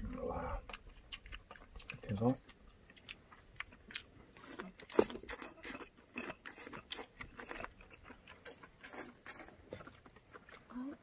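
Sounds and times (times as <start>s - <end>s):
man chewing with wet mouth smacks: 0.0s - 11.0s.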